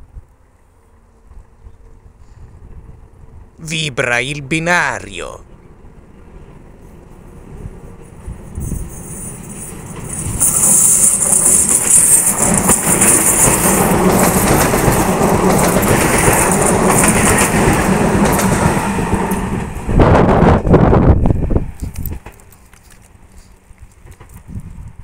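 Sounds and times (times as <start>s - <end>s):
train passing close by: 0.0s - 25.0s.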